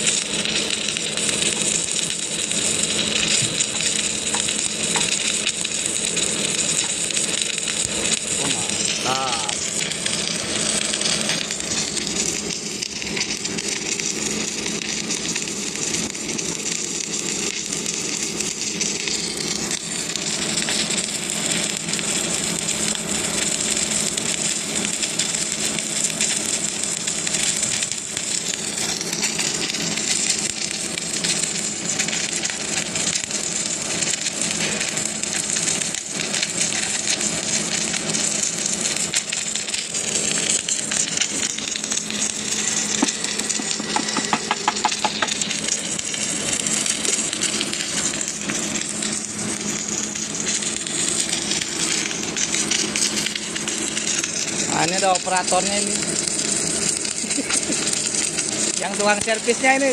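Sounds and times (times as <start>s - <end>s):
welding arc crackling sizzle: 0.0s - 59.9s.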